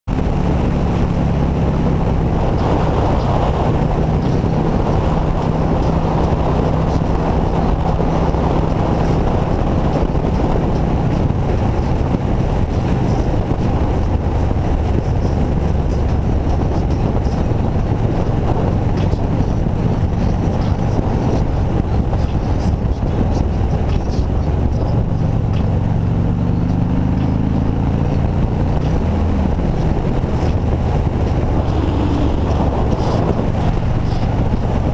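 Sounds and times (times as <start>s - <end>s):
motorcycle engine cruising: 0.0s - 34.9s
wind rush on microphone: 0.0s - 34.9s.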